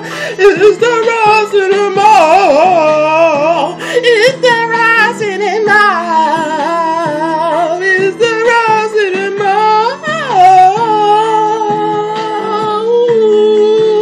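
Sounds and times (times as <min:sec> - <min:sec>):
young man singing: 0:00.0 - 0:14.0.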